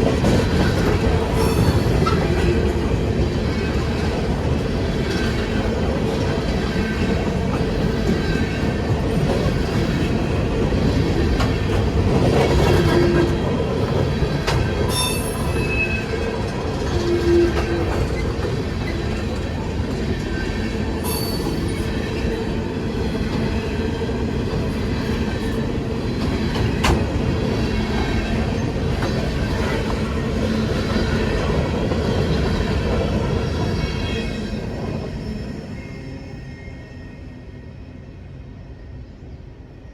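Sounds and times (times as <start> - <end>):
train cars rumbling on rails: 0.0 - 37.5.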